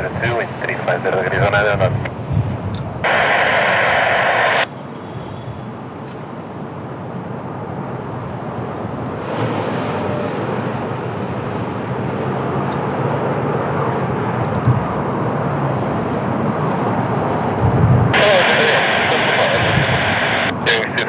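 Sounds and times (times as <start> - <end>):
jet airliner engine rush: 0.0 - 21.0.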